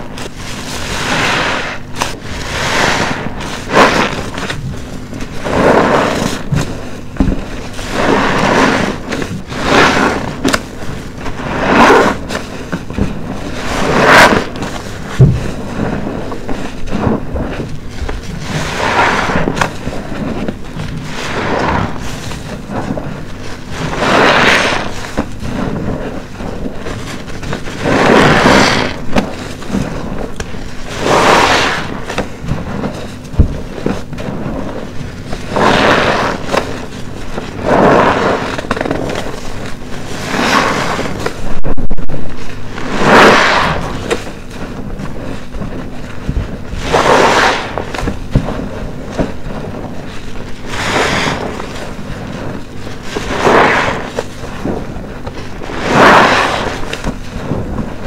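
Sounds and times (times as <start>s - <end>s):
soapy sponge squelching: 0.0s - 58.0s.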